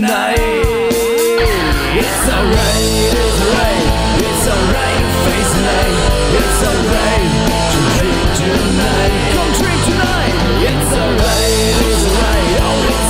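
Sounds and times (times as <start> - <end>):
loud rock music: 0.0 - 13.0.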